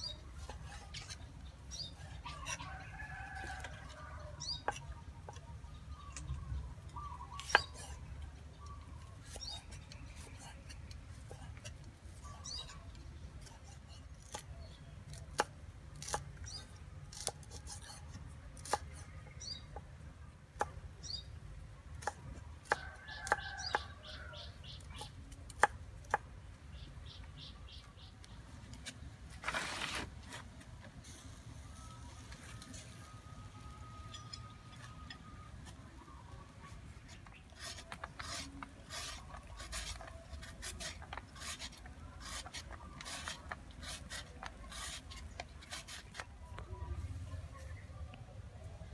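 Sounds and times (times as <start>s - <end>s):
faint birds chirping: 0.0s - 29.3s, 30.2s - 48.9s.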